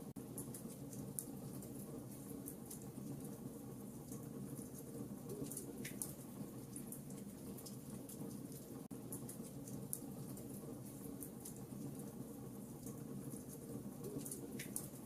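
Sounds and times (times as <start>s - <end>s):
wood fire crackling and popping: 0.2s - 15.0s.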